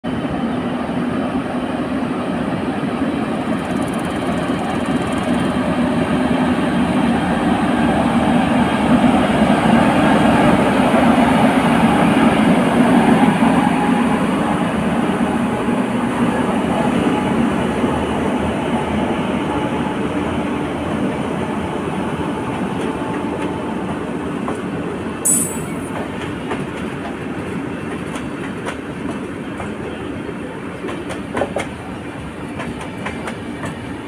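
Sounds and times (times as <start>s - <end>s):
train wheels rumbling on rail: 0.1s - 34.0s.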